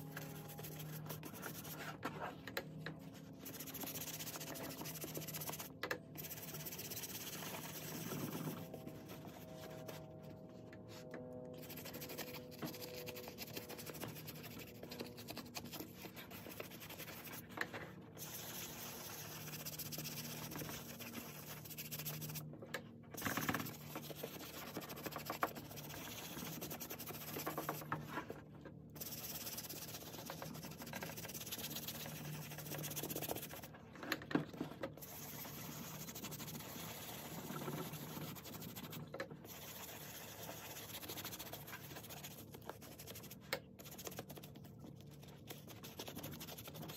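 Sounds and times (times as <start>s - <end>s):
brush scrubbing suede: 0.0s - 2.0s, 3.2s - 10.1s, 11.6s - 17.4s, 18.2s - 22.4s, 23.2s - 27.8s, 29.0s - 33.7s, 35.0s - 44.6s, 45.2s - 46.9s.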